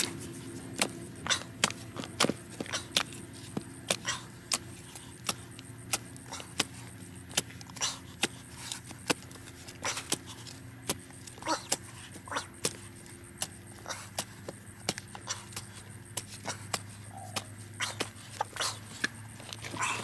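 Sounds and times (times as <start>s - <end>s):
spade chopping and scraping soil: 0.0s - 20.0s.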